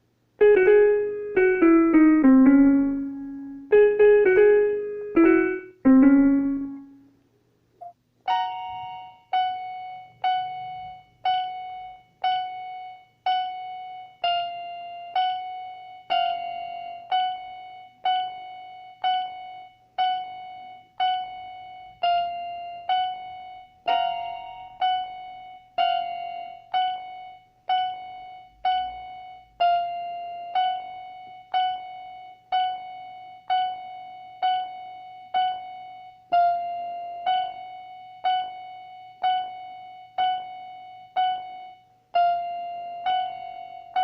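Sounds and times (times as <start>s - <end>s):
electronic keyboard single notes: 0.0s - 7.2s, 7.8s - 44.0s.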